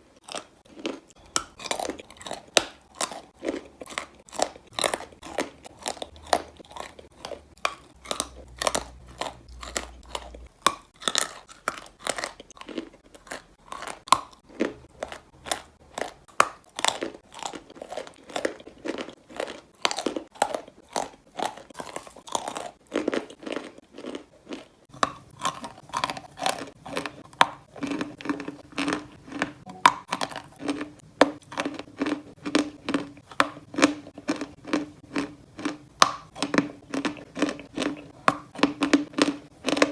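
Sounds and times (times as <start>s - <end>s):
chalk being chewed: 0.2s - 39.9s.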